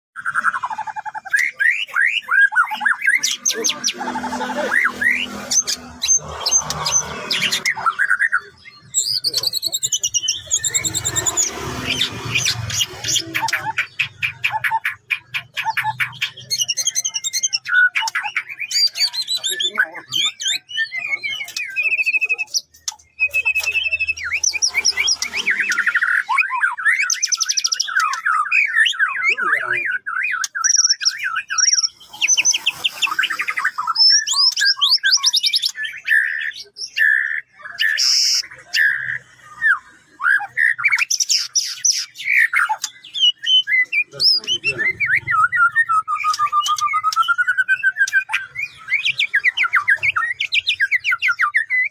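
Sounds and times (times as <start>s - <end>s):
songbird singing whistles and trills: 0.2s - 3.6s, 13.1s - 51.9s.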